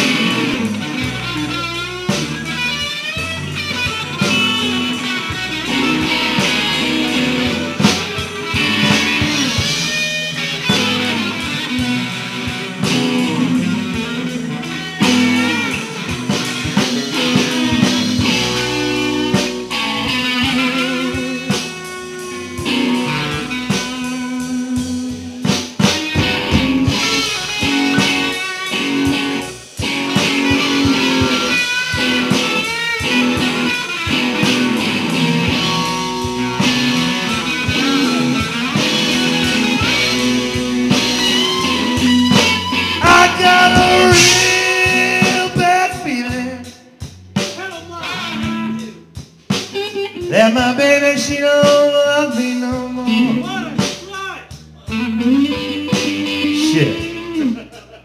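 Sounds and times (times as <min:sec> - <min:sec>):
blues-rock band playing: 0:00.0 - 0:58.0.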